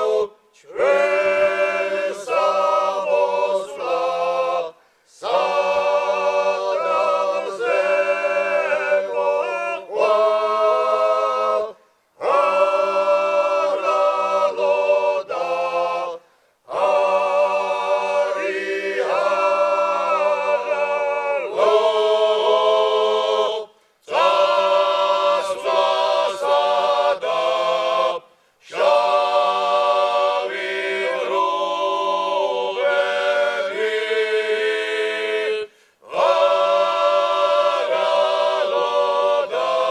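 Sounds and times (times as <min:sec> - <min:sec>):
men's a cappella choir singing: 0:00.0 - 0:39.9.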